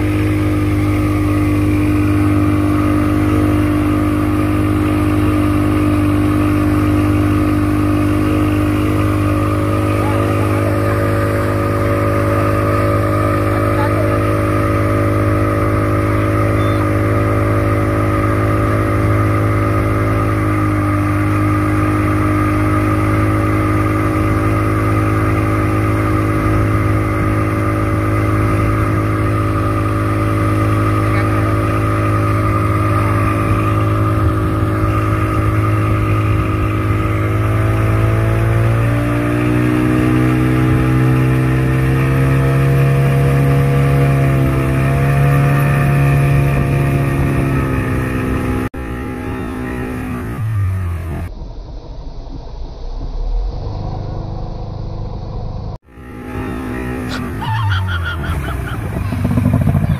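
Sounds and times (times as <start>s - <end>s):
motor engine running: 0.0s - 59.9s.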